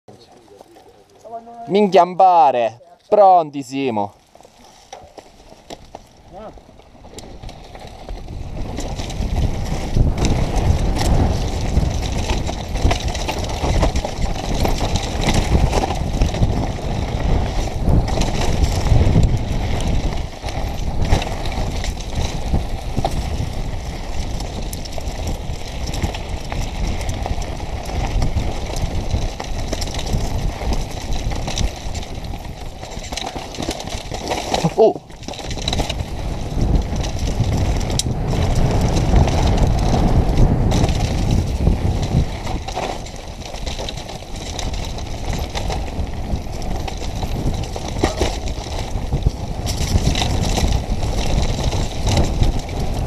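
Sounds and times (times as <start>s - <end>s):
tyres running over gravel: 0.1s - 53.0s
bike rattling over bumps: 3.6s - 53.0s
wind buffeting microphone: 6.2s - 53.0s.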